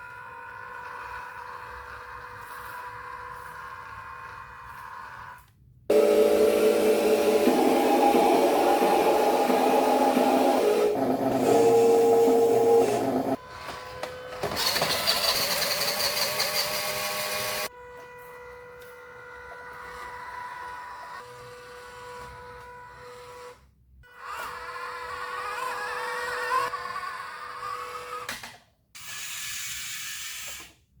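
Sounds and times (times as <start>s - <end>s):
small electric motors whining: 0.0s - 28.3s.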